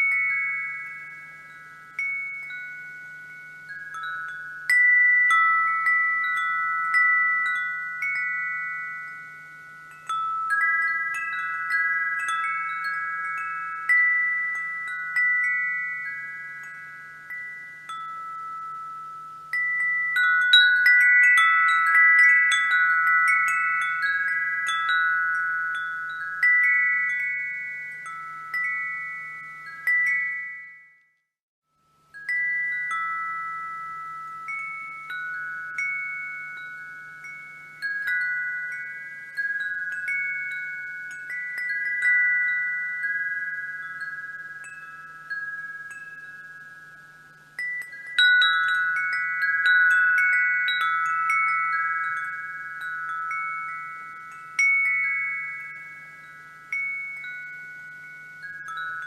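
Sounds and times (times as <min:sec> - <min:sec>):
wind chime ringing: 0:00.0 - 0:59.0.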